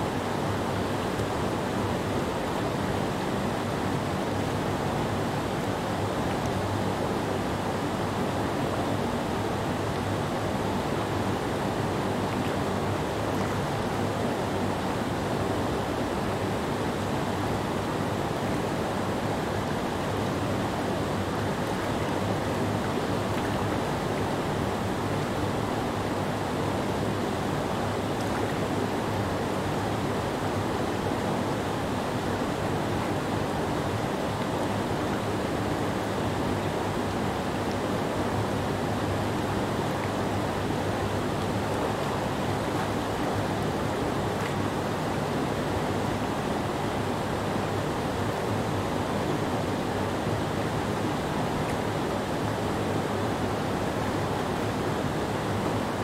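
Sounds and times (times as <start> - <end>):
whitewater rapids roaring: 0.1 - 56.0.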